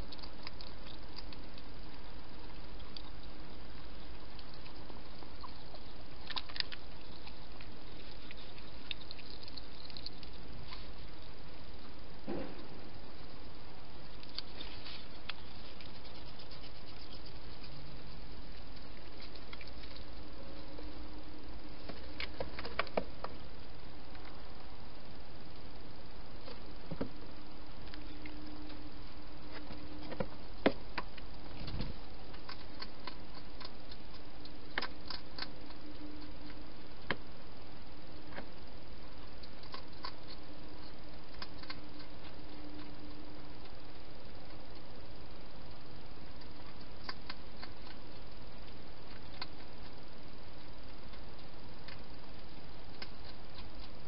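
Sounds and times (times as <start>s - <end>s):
hedgehogs clicking and scratching: 0.0s - 21.1s, 21.7s - 23.4s, 27.8s - 37.3s, 38.3s - 45.0s, 45.6s - 54.0s
steady hiss: 0.0s - 54.0s.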